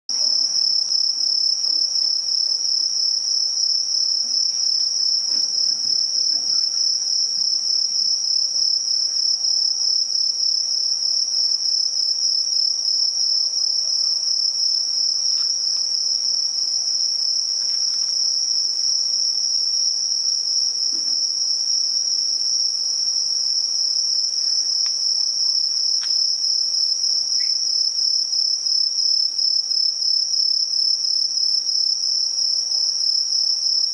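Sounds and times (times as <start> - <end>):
insects trilling: 0.2 - 33.9.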